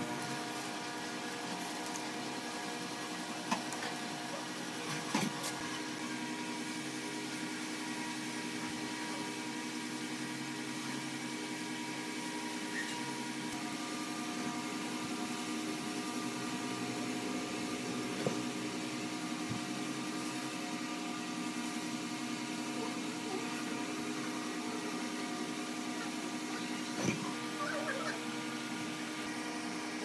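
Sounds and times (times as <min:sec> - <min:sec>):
machine hum with hiss: 0:00.0 - 0:30.0.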